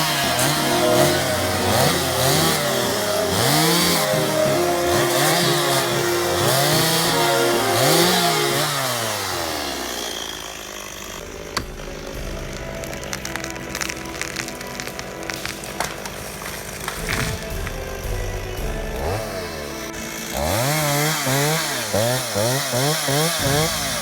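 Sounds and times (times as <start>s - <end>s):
chainsaw revving in bursts: 0.0s - 13.7s, 15.0s - 24.0s.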